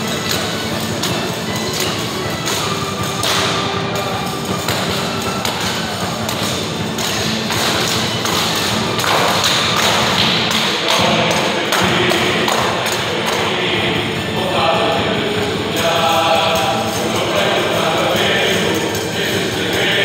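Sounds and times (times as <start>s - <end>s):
guitars and mandolins strumming: 0.0s - 20.0s
tambourines thumping and jingling: 0.0s - 20.0s.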